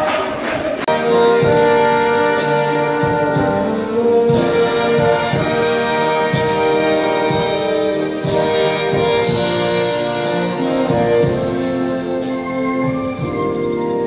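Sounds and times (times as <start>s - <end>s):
brass band playing slow chords: 0.9s - 14.0s.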